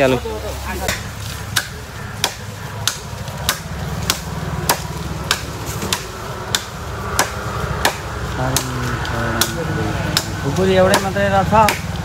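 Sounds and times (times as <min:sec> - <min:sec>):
blade chopping bamboo: 0:00.8 - 0:12.0.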